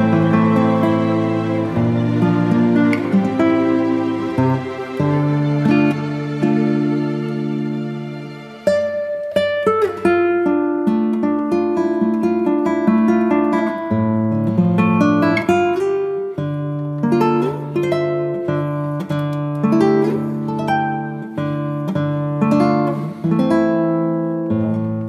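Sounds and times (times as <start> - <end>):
acoustic guitar melody: 0.0 - 25.0.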